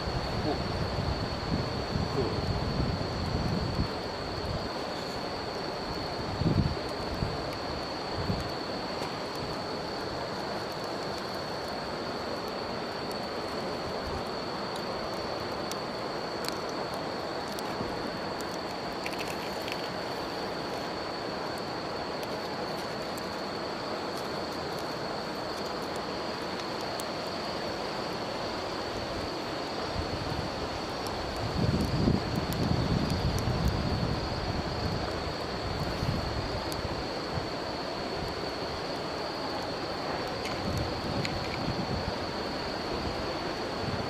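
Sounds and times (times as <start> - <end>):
campfire crackling and popping: 0.0 - 44.0
high-pitched insect trill: 0.0 - 44.0.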